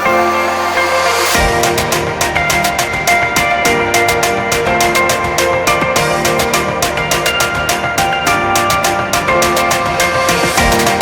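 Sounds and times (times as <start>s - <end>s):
held synth notes: 0.0s - 11.0s
fast electronic drum beat: 1.4s - 11.0s.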